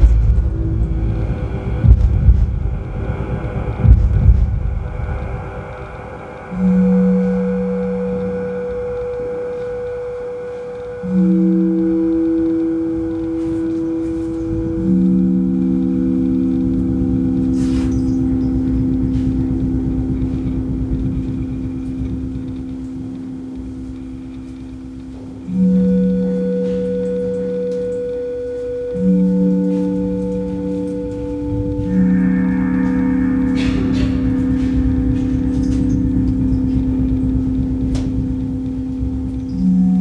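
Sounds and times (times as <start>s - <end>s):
ambient music of ringing tones: 0.0s - 40.0s.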